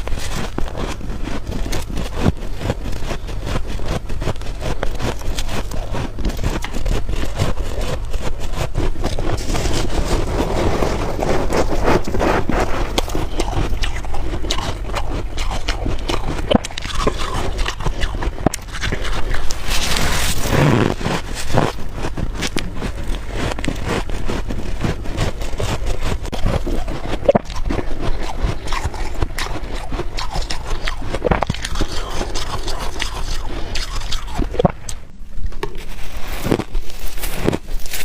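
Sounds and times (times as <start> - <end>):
frost being scraped and bitten: 0.0 - 38.0.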